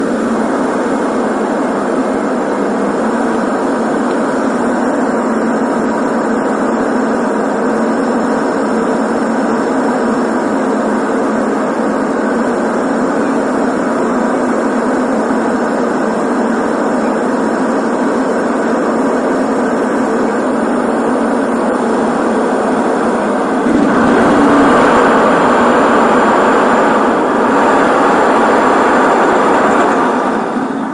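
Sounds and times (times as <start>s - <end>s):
airplane engine and air noise: 0.0s - 30.9s.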